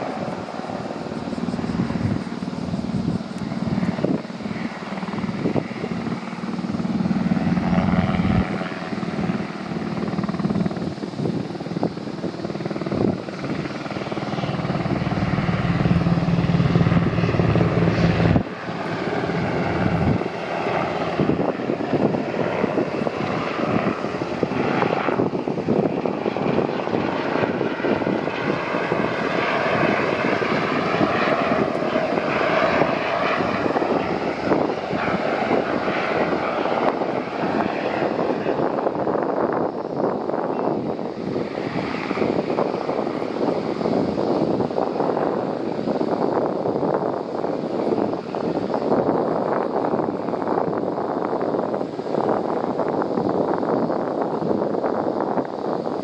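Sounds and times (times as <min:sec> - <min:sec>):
helicopter flying past: 0:00.0 - 0:56.0.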